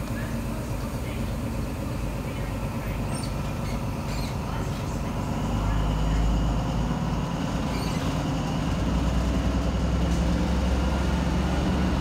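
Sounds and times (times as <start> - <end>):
diesel train engine hum: 0.0 - 12.0.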